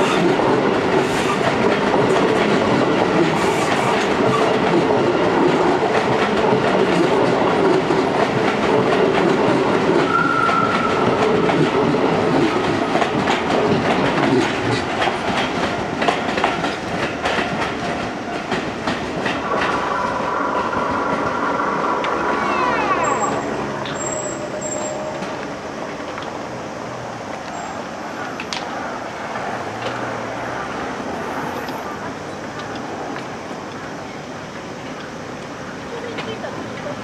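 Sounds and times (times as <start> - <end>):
train wheels clicking over rail joints: 0.0 - 37.0.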